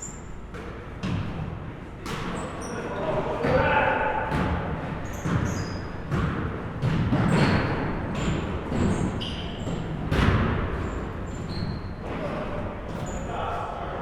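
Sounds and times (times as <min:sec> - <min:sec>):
basketball bouncing on gym floor: 0:00.5 - 0:02.7, 0:03.4 - 0:13.2.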